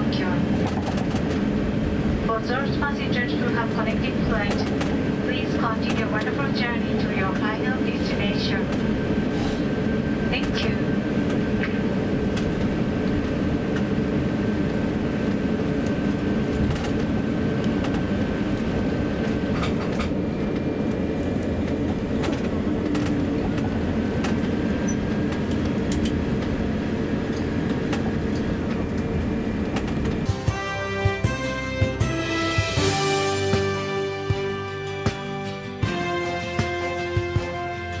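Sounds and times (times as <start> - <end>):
aircraft cabin low rumble: 0.0 - 31.4.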